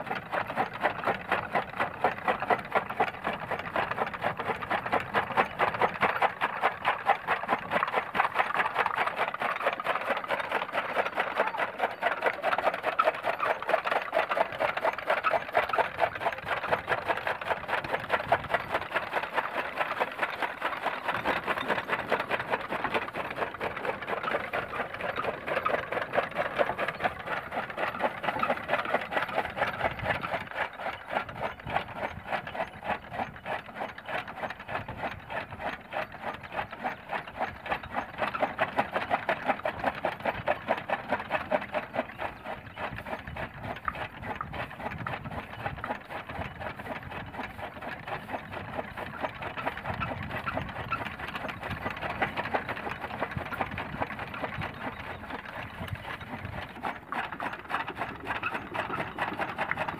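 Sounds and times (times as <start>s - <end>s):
chaff cutter rhythmic clatter: 0.0s - 59.9s.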